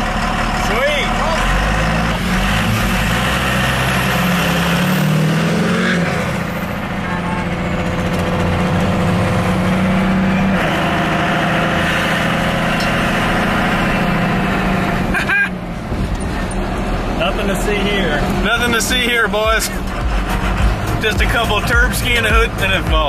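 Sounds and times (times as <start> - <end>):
pickup truck engine running: 0.0 - 4.9, 6.1 - 23.0
road noise: 0.0 - 23.0.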